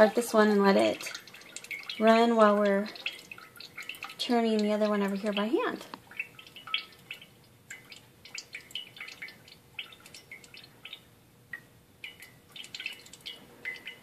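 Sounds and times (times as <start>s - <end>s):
cream dripping into glass jar: 0.0s - 14.0s.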